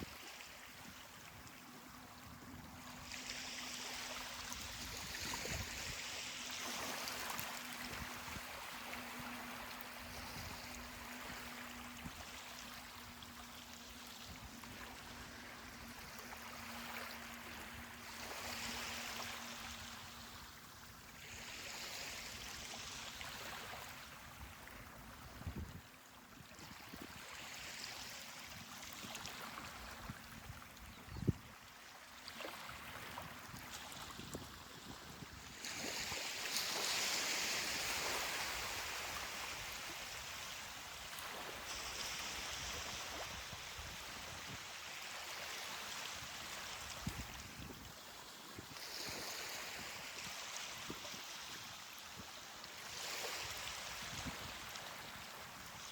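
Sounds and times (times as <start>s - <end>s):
ocean waves washing onto beach: 0.0s - 30.9s, 32.2s - 48.0s.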